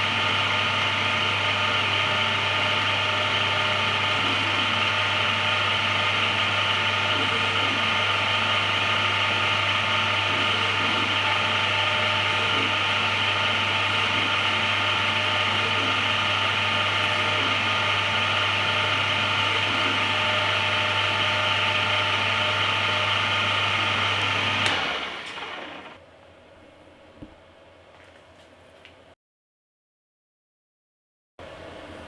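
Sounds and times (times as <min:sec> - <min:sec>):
lathe motor hum and whine: 0:00.0 - 0:26.0.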